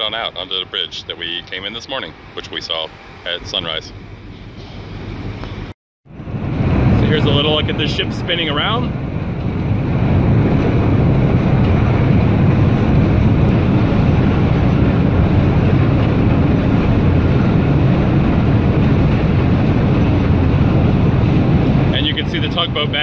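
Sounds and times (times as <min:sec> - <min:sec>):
ship thruster rumble: 0:00.0 - 0:23.0.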